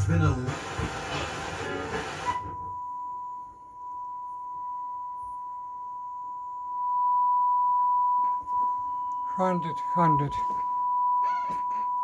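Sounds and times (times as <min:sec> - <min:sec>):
sine-wave test tone: 0:02.2 - 0:12.0.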